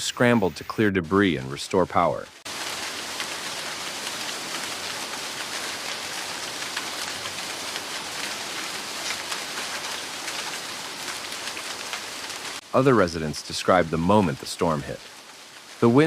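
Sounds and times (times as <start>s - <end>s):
heavy rain falling: 1.2s - 16.0s.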